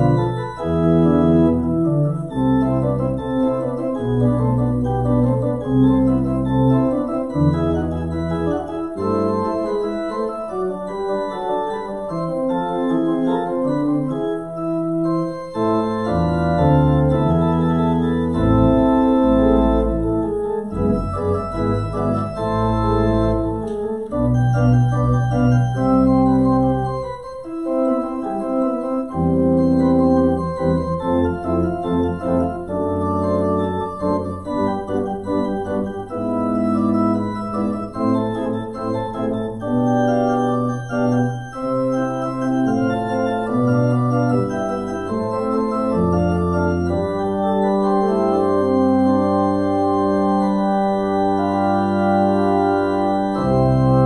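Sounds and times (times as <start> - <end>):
church organ playing chords: 0.0 - 54.0.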